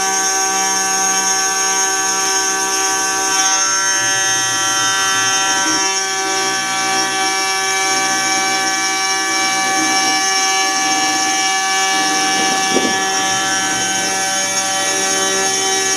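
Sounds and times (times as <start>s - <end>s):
metal cutting noise: 0.0s - 15.9s
milling spindle high whine: 0.0s - 15.9s.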